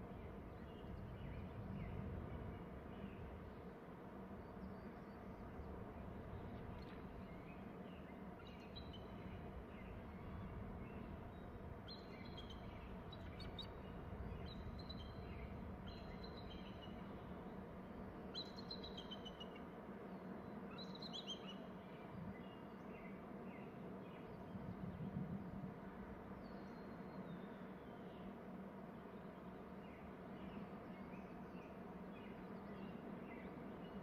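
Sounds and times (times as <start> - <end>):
low background noise: 0.0 - 34.0.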